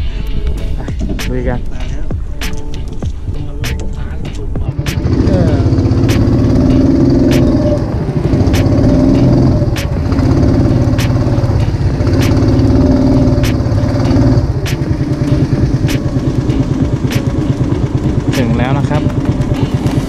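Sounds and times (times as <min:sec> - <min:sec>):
boat engine running: 0:03.4 - 0:20.0.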